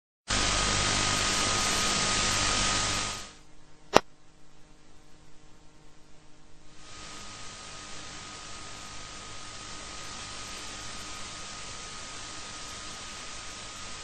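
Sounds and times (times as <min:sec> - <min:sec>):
static hiss: 0:00.3 - 0:04.0, 0:04.7 - 0:14.0.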